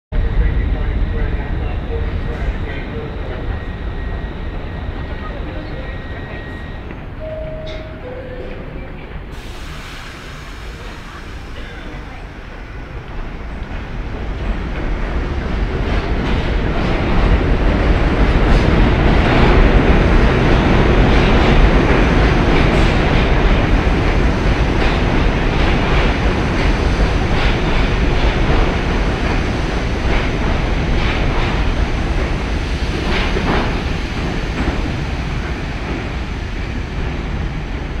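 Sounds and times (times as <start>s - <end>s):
subway train rumbling past: 0.2s - 38.0s.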